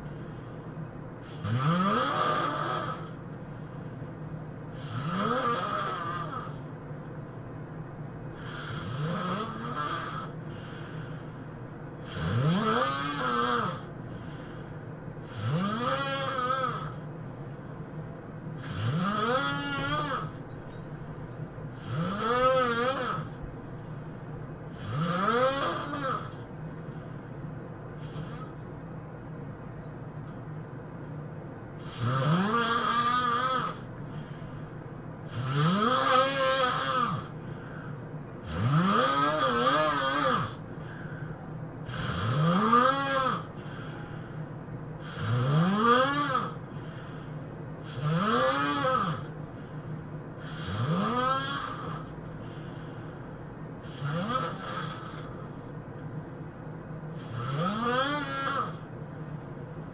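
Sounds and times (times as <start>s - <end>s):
person snoring: 1.2s - 3.2s, 4.7s - 6.7s, 8.3s - 18.0s, 18.6s - 20.4s, 21.0s - 27.3s, 28.0s - 28.6s, 31.8s - 55.7s, 57.1s - 59.2s.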